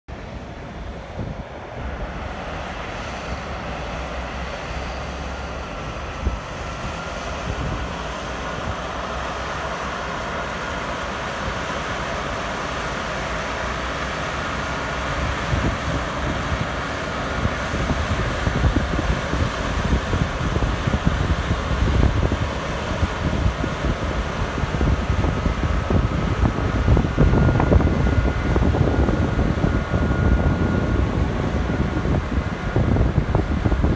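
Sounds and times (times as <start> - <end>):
faint steady whine: 0.1 - 33.9
tractor diesel engine under load: 0.1 - 33.9
wind buffeting microphone: 0.2 - 33.9.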